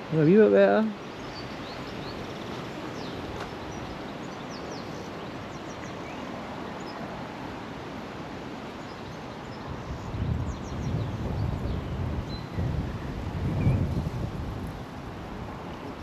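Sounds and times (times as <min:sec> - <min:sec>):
river water rushing over shallows: 0:00.0 - 0:16.0.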